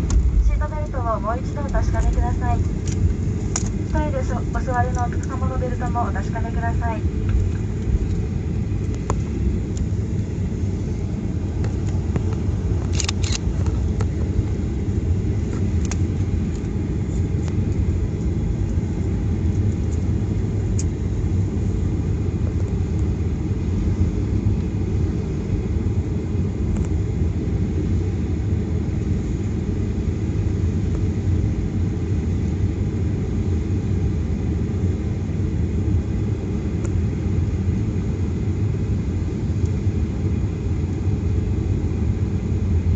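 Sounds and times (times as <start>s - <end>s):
airliner cabin rumble while taxiing: 0.0s - 42.9s.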